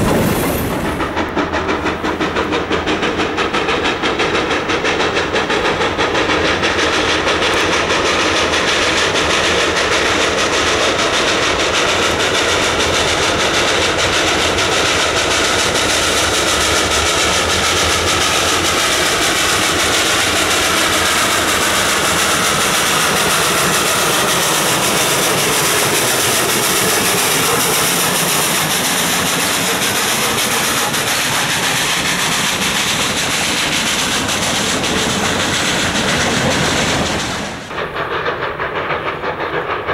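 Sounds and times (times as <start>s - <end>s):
railway cars rolling by: 0.0s - 39.9s
steam locomotive exhaust beating: 0.0s - 39.9s.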